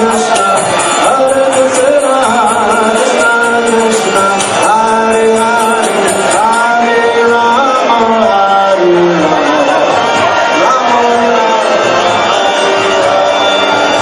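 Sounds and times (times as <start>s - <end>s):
devotional singing: 0.0s - 14.0s
high-pitched percussion beat: 0.0s - 14.0s.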